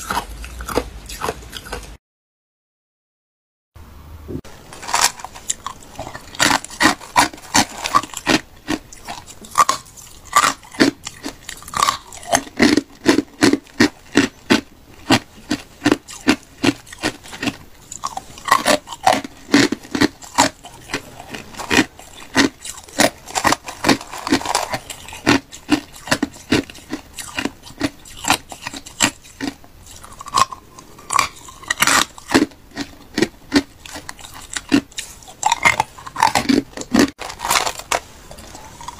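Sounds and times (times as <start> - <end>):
ice crunched between teeth: 4.7 - 38.0.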